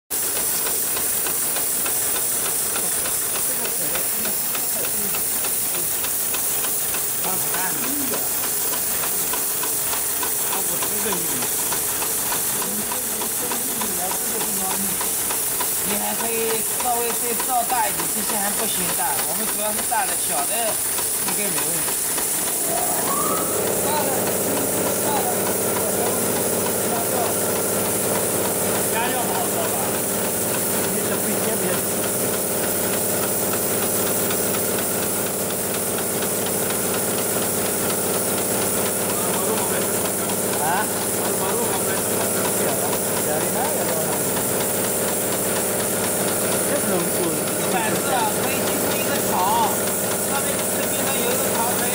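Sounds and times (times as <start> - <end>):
sewing machine stitching: 0.2 - 51.9.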